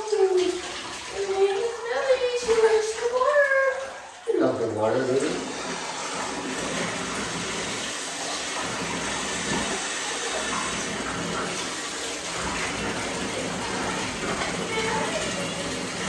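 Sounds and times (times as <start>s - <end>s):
water running into bathtub: 0.0s - 16.0s.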